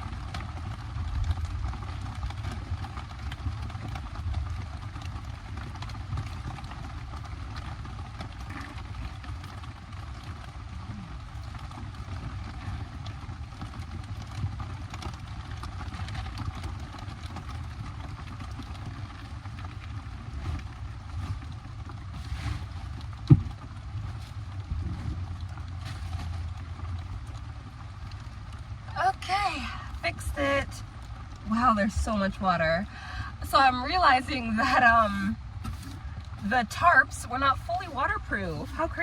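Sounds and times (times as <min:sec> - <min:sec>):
heavy rain on tarps: 0:00.0 - 0:39.0
low rumble: 0:00.0 - 0:39.0.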